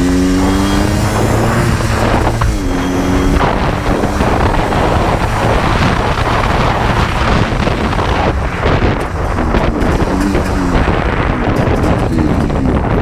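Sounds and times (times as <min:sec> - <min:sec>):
atv engine: 0:00.0 - 0:13.0
wind buffeting microphone: 0:00.0 - 0:13.0.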